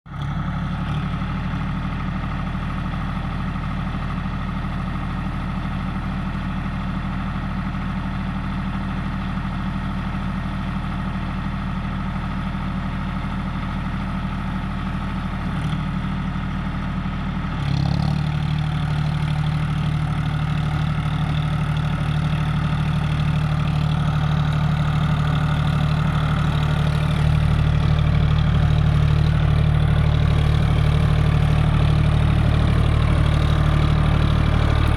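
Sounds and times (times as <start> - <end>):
tractor diesel engine idling: 0.1 - 34.9.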